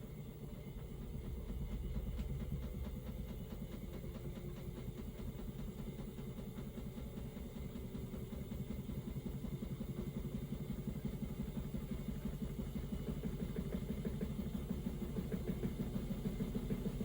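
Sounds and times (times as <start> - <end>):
washing machine drum running: 0.0 - 17.0.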